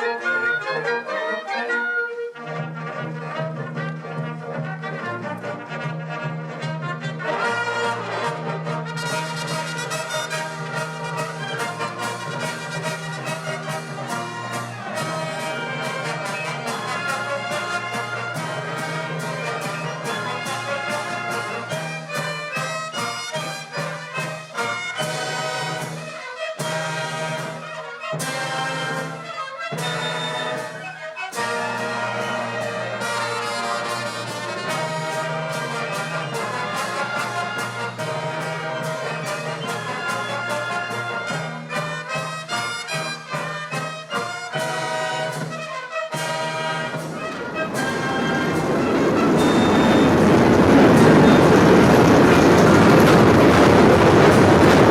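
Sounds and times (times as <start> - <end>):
brass band music: 0.0 - 54.9.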